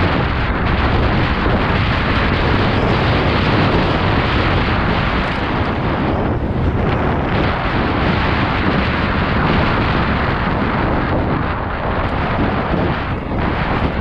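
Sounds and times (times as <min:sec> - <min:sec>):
mountain bike rattling over dirt: 0:00.0 - 0:14.0
wind buffeting microphone: 0:00.0 - 0:14.0.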